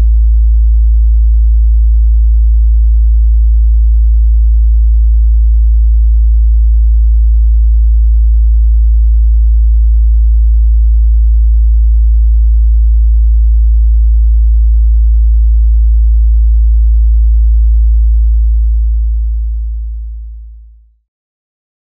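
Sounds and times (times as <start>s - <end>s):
low sine-wave test tone: 0.0s - 21.0s.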